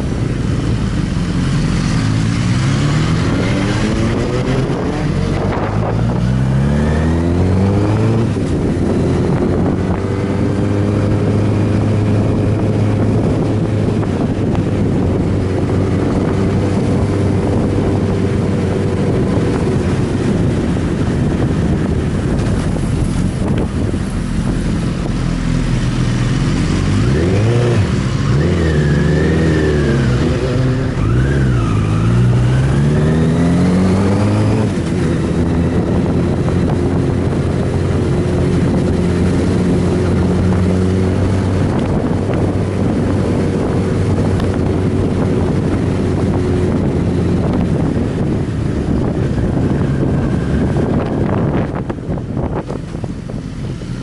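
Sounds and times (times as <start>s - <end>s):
motorcycle engine accelerating: 0.0s - 54.0s
wind noise on microphone: 0.0s - 54.0s.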